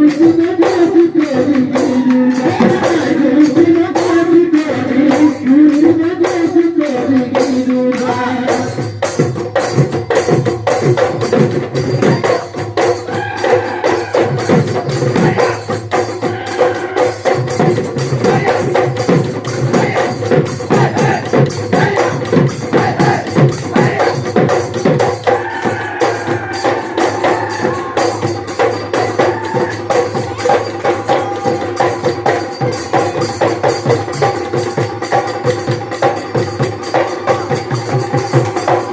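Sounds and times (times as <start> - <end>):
drum percussion: 0.0 - 38.9
jingling percussion: 0.0 - 38.9.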